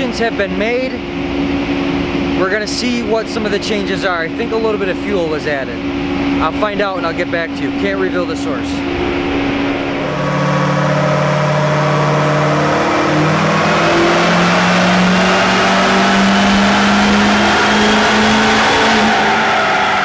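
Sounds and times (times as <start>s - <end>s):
diesel engine revving: 0.0s - 20.0s
turbo whine: 0.0s - 20.0s.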